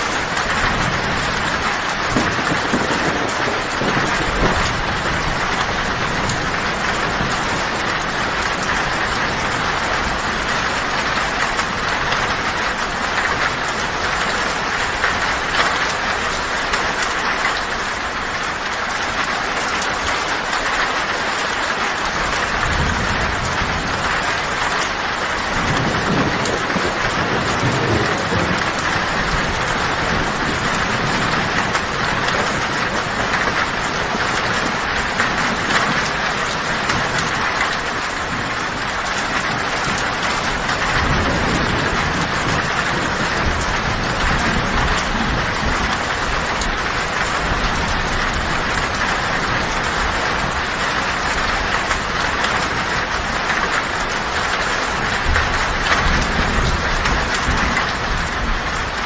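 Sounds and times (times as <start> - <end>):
thunder rumbling: 0.0 - 18.4, 22.0 - 59.0
heavy rain on a tin roof: 0.0 - 59.0.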